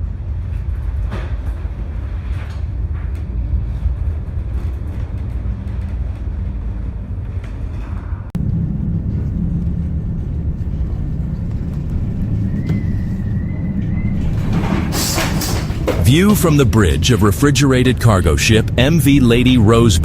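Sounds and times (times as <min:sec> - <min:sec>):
ship engine rumble: 0:00.0 - 0:20.0.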